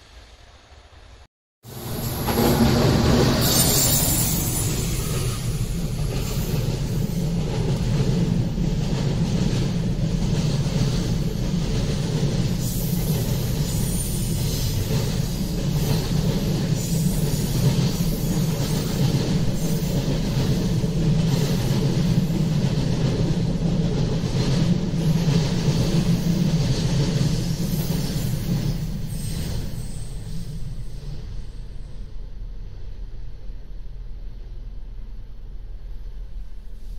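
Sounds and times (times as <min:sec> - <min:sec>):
freight train rumble: 0:00.0 - 0:36.9.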